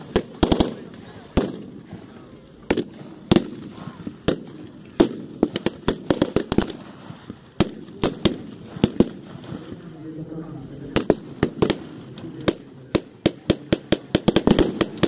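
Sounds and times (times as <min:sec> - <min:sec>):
blank gunshots: 0:00.0 - 0:02.1, 0:02.7 - 0:10.0, 0:10.9 - 0:15.0.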